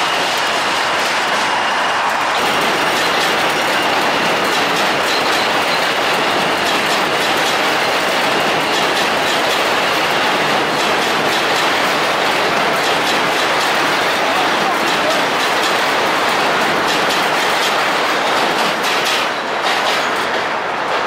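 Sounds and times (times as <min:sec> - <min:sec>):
train wheels rushing on rail: 0:00.0 - 0:21.0
wheels clicking over rail joints: 0:00.0 - 0:21.0.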